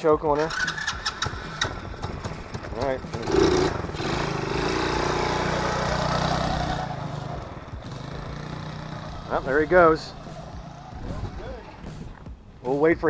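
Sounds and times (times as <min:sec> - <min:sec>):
atv engine revving: 0:00.0 - 0:12.4.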